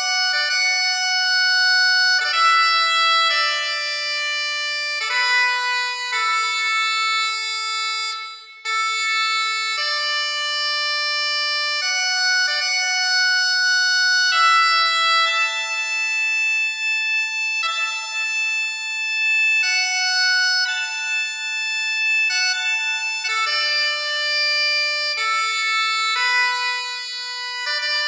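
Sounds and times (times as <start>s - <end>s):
bagpipes playing slow melody: 0.0s - 28.0s.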